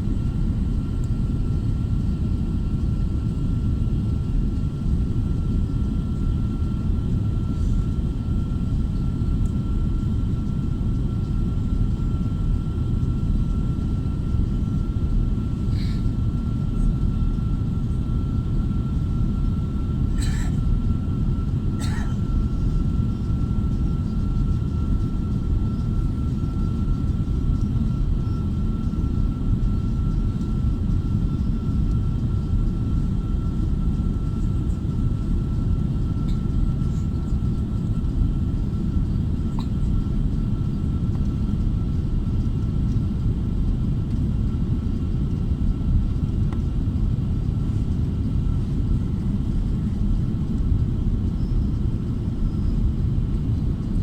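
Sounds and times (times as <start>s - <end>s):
low rumble of engines and airflow: 0.0s - 54.0s.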